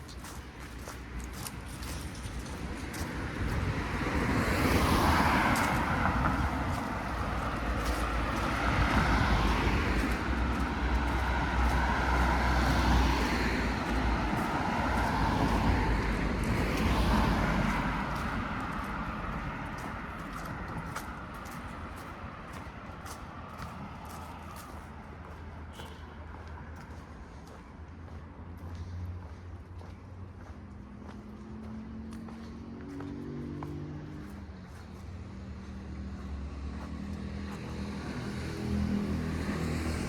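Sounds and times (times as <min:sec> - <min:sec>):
cars passing: 0:00.0 - 0:40.0
low rumble of traffic: 0:00.0 - 0:40.0.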